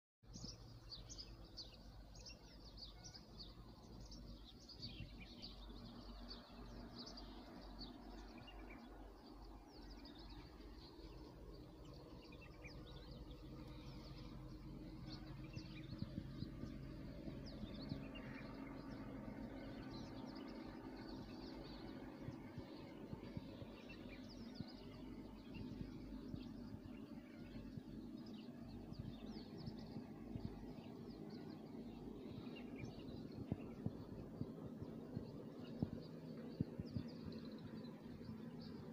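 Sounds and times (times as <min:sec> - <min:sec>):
small birds chirping: 0:00.2 - 0:38.9
low background rumble: 0:00.3 - 0:38.9.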